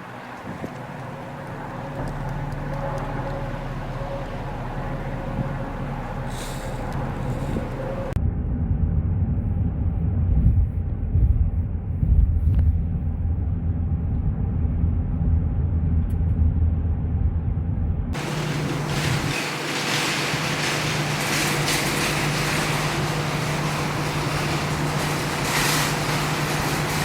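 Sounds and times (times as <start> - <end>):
road traffic: 0.0 - 12.2, 12.8 - 27.0
gusting squall wind: 0.0 - 27.0.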